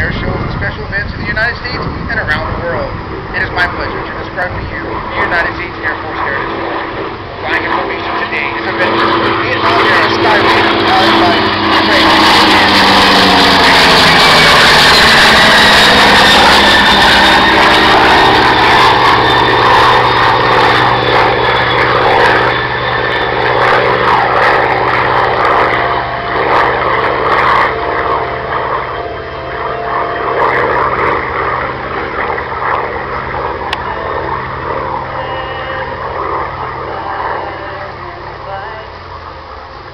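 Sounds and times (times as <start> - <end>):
aircraft passing low overhead: 0.0 - 39.9
high jet whine: 0.0 - 39.9.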